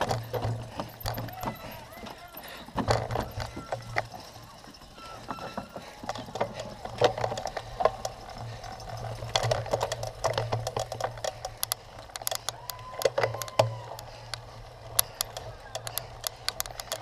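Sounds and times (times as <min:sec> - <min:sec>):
bike rattling over rough ground: 0:00.0 - 0:17.0.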